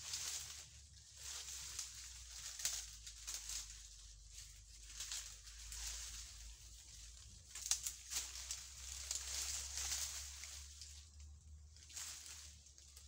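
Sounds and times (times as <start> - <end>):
dry leaves rustling and crackling: 0.0 - 13.0.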